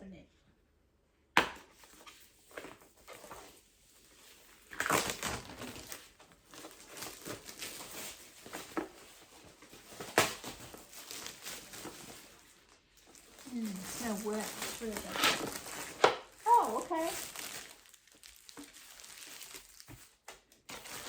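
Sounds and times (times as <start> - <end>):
packaging crinkling and rustling: 1.7 - 21.0.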